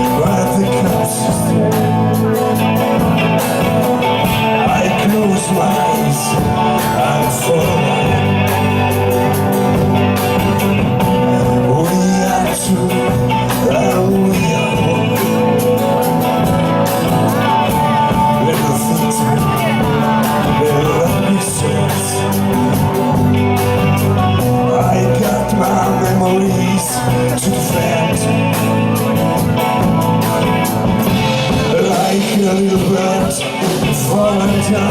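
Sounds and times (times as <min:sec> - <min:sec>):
live rock band playing: 0:00.0 - 0:34.9
person singing: 0:00.0 - 0:34.9.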